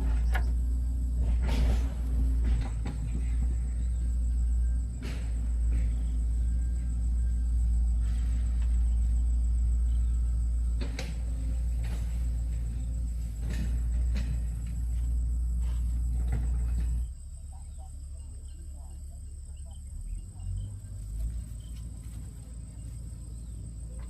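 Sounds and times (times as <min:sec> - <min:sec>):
motor rumbling: 0:00.0 - 0:24.0.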